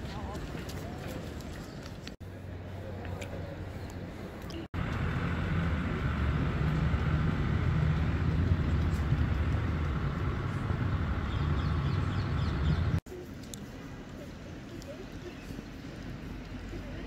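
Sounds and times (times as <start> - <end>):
road traffic rumble: 0.0 - 17.0
vehicle engines running: 0.0 - 17.0.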